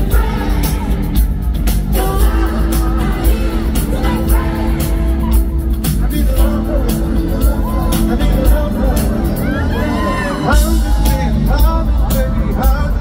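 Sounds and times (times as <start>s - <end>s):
heavy bass: 0.0s - 13.0s
lead vocal singing: 0.0s - 13.0s
live pop music: 0.0s - 13.0s
steady drum beat: 0.0s - 13.0s.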